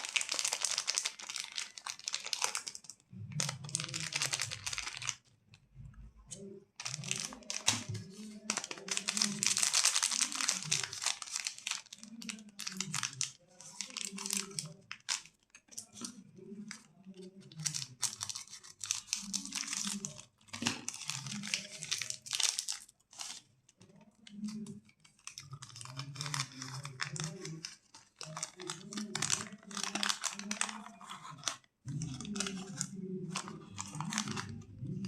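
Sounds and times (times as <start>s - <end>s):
wrappers being torn open: 0.0s - 5.2s, 6.8s - 16.1s, 17.5s - 23.4s, 24.3s - 35.0s
plastic wrappers crinkling: 0.0s - 5.3s, 6.3s - 35.0s.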